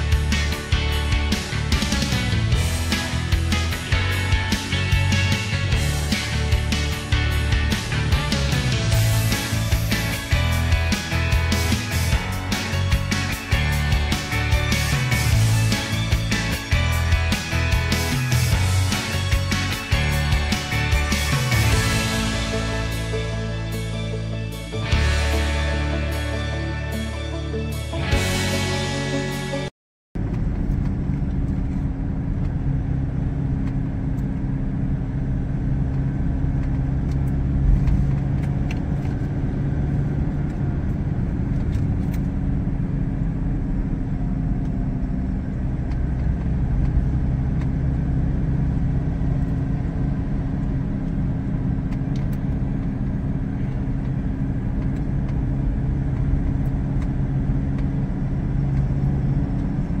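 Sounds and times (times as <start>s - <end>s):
car engine and tyre road noise: 0.0s - 60.0s
low hum: 0.0s - 60.0s.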